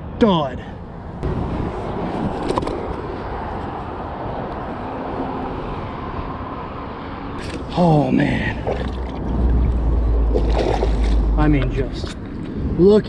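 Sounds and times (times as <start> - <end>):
road traffic rumble overhead: 0.0 - 13.0.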